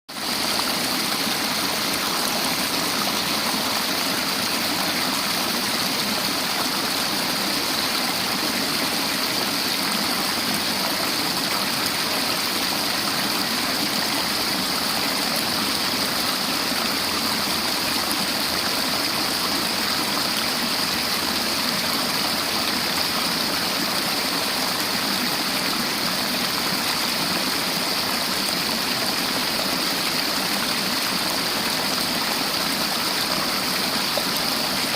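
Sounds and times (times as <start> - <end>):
river water flowing over rocks: 0.1 - 34.9.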